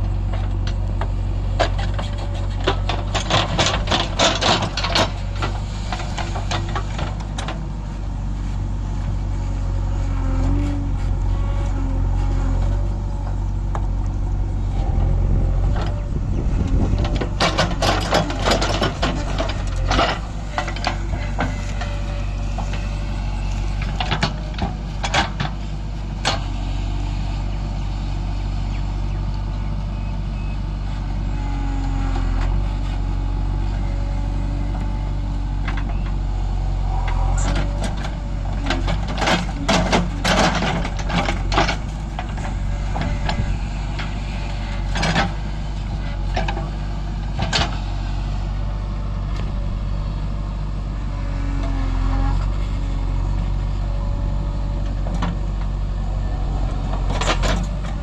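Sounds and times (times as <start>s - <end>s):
diesel machinery engine running: 0.0s - 58.0s.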